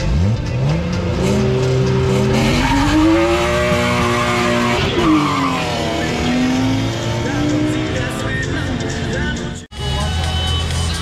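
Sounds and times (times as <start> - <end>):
car engine accelerating hard: 0.0 - 9.6.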